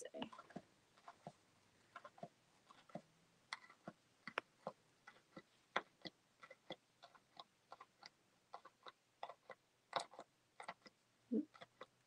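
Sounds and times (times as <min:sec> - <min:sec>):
push pin piercing paper and canvas: 0:00.2 - 0:12.0.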